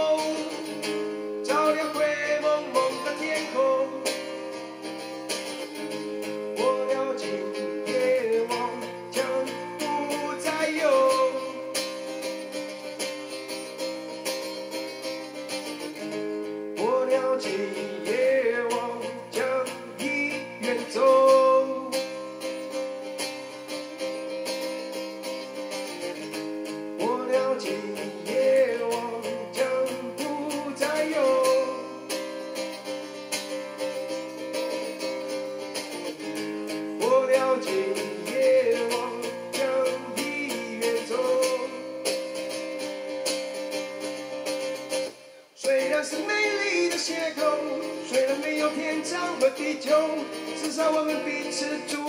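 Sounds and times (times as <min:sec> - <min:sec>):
acoustic guitar playing: 0:00.0 - 0:52.0.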